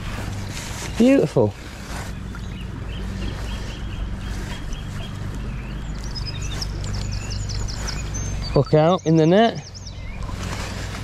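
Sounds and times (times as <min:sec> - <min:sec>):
birds singing: 0:00.0 - 0:11.0
low steady hum: 0:00.0 - 0:11.0
river water flowing: 0:00.0 - 0:11.0.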